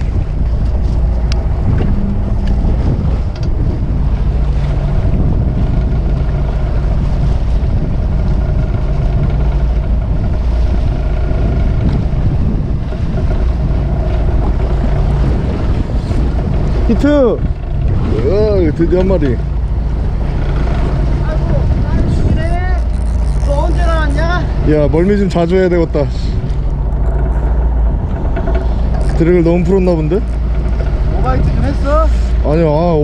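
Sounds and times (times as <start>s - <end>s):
low boat hum: 0.0s - 33.0s
waves splashing against hull: 0.0s - 33.0s
wind buffeting microphone: 0.0s - 33.0s.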